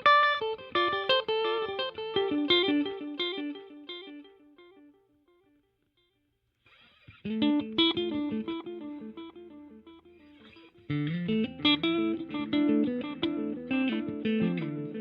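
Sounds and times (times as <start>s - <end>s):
electric guitar with delay: 0.0s - 5.5s, 6.8s - 15.0s.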